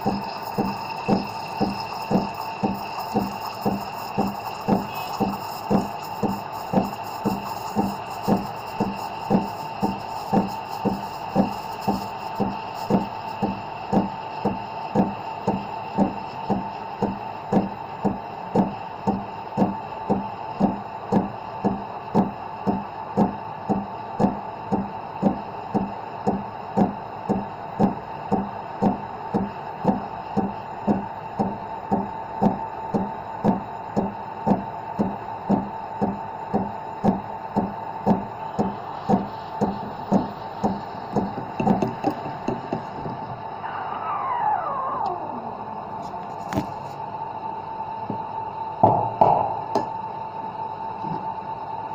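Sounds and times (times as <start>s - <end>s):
steam wand steaming milk: 0.0s - 48.6s.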